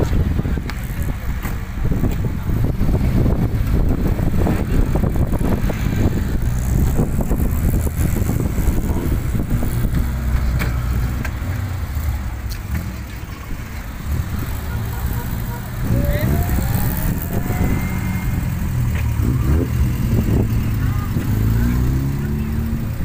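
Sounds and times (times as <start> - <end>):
car engines driving past: 0.1 - 23.0.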